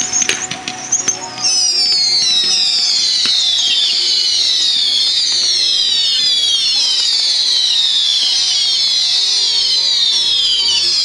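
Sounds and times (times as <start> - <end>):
faint firework bangs: 0.0 - 11.0
whistling fireworks: 0.0 - 11.0.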